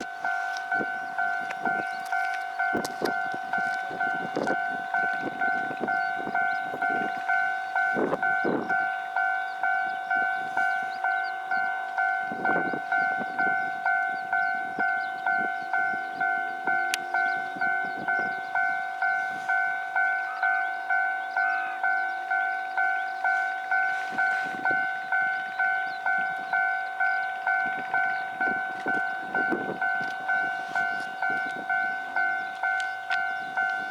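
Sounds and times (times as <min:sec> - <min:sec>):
level-crossing warning bell: 0:00.0 - 0:33.9.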